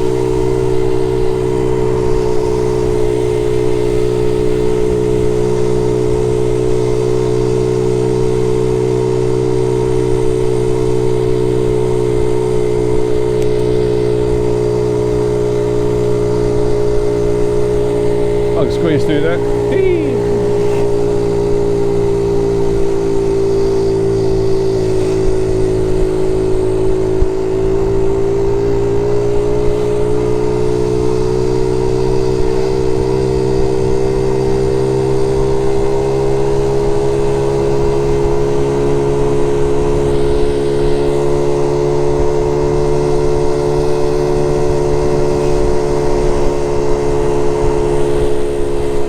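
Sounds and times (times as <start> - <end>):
small motorcycle engine running: 0.0 - 49.0.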